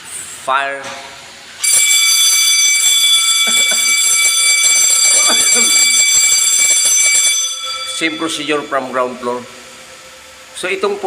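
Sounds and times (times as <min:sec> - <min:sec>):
fire alarm bell ringing: 0:01.6 - 0:11.0.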